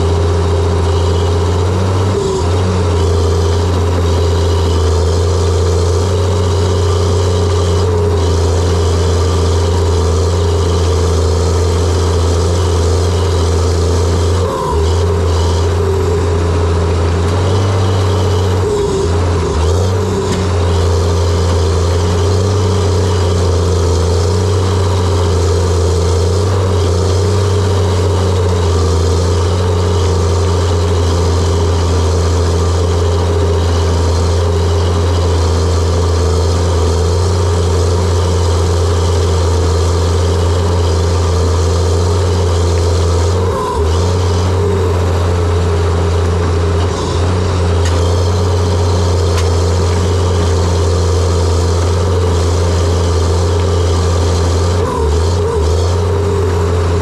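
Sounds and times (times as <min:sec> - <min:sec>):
dozer diesel engine running: 0:00.0 - 0:57.0.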